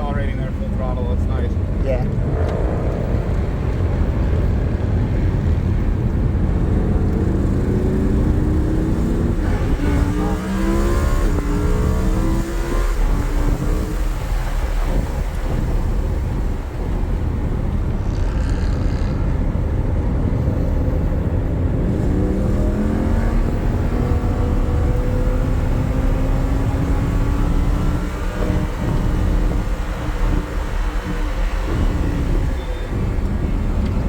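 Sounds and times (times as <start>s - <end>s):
road and wind noise: 0.0s - 34.0s
car engine revving under load: 6.2s - 34.0s.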